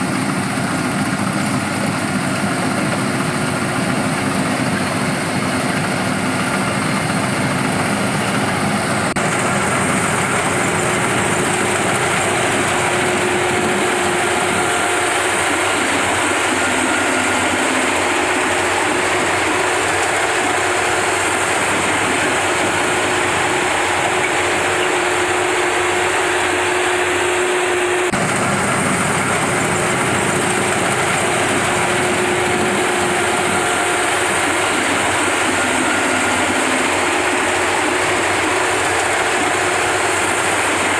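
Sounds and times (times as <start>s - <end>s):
harvesting machine running: 0.0s - 40.9s.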